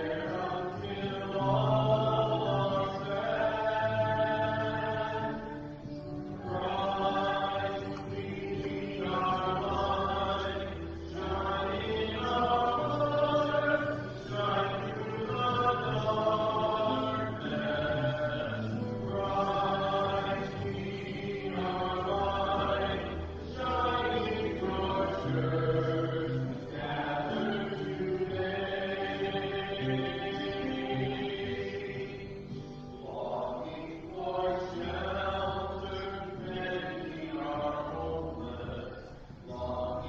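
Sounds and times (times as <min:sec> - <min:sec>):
low held accompaniment notes: 0:00.0 - 0:40.0
voices singing a hymn: 0:00.0 - 0:40.0.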